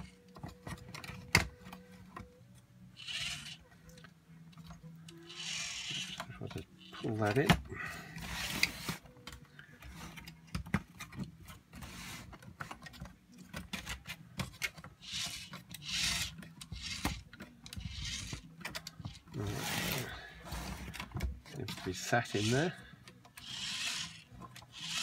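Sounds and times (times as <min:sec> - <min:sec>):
plastic parts scraping and clicking: 0:00.0 - 0:25.0.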